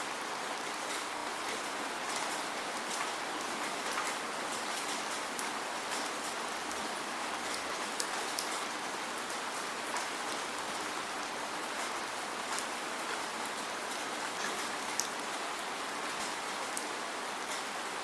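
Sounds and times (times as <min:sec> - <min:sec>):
steady rain hissing: 0:00.0 - 0:18.0
raindrops ticking on a surface: 0:00.2 - 0:18.0.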